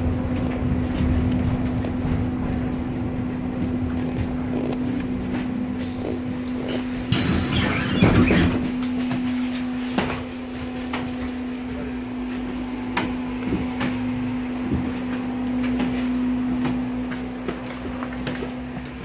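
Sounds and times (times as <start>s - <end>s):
tram hum: 0.0s - 19.0s.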